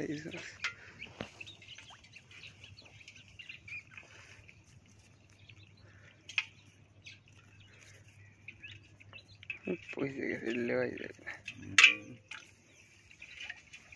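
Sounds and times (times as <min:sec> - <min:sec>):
bird chirps: 0:00.0 - 0:13.9
faint rural ambience: 0:00.0 - 0:13.9.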